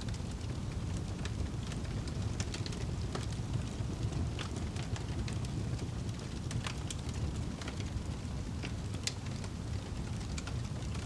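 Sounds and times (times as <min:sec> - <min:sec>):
log fire crackling: 0:00.0 - 0:11.0.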